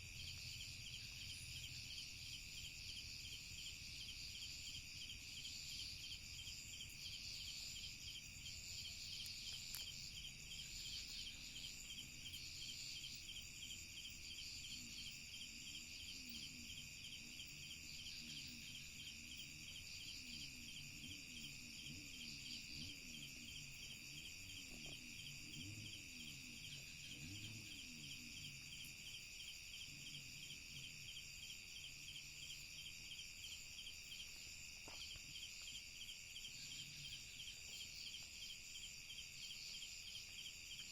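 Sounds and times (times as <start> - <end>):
crickets and insects trilling: 0.0 - 40.9.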